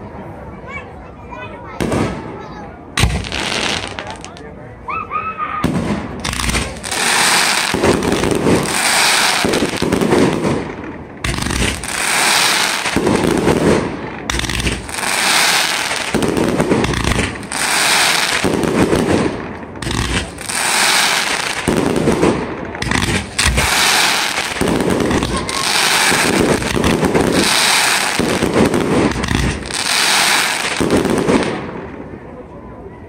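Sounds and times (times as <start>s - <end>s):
fireworks bursting: 1.8s - 4.6s, 5.6s - 32.2s
fireworks crackling: 1.8s - 4.6s, 5.6s - 32.1s
low thumps of fireworks: 3.0s - 4.4s, 5.6s - 31.8s.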